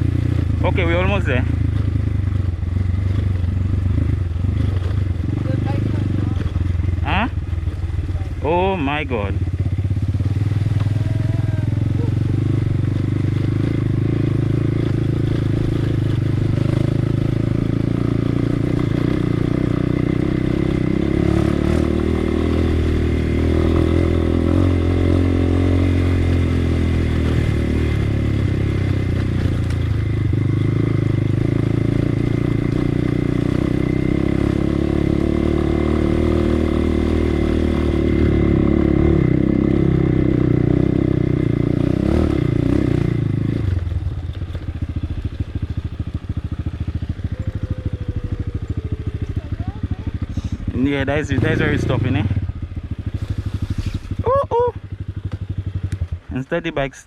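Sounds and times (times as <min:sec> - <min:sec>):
motorcycle engine under throttle: 0:00.0 - 0:57.0.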